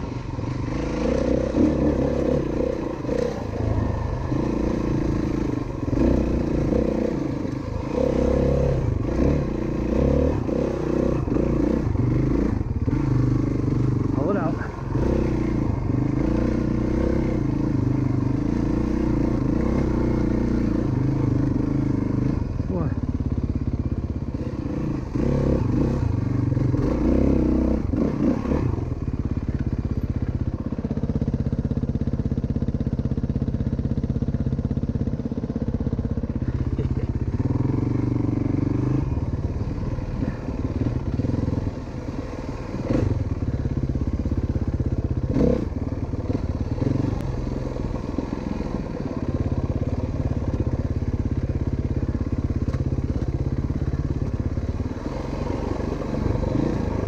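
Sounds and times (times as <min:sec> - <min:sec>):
dirt bike engine revving: 0:00.0 - 0:23.0, 0:24.2 - 0:28.9, 0:36.4 - 0:50.9, 0:53.1 - 0:57.0.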